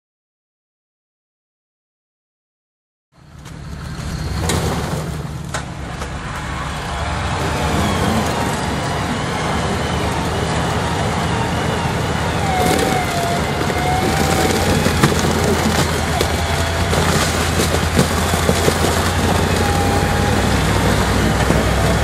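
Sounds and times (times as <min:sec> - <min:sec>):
vehicle engine running: 0:03.1 - 0:22.0.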